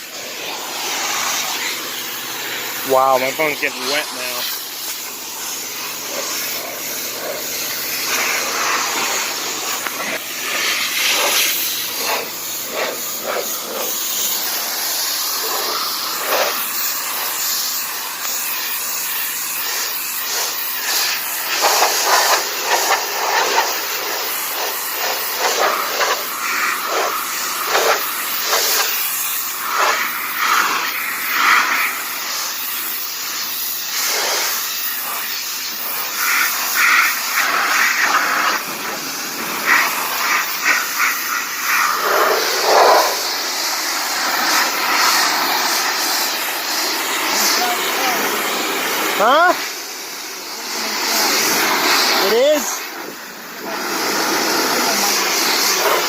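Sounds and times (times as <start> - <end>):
pressure washer spraying car: 0.0 - 56.0.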